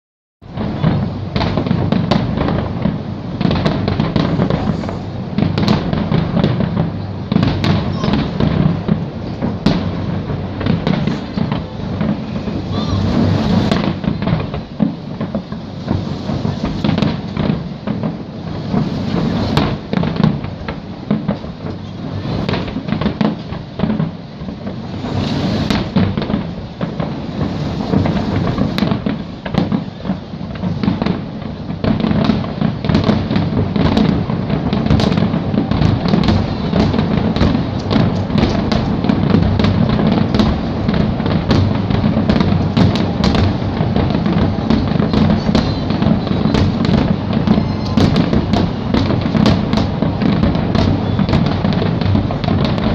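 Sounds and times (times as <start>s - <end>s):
continuous low rumble: 0.4s - 52.9s
fireworks bursts and crackling bangs: 0.4s - 52.9s.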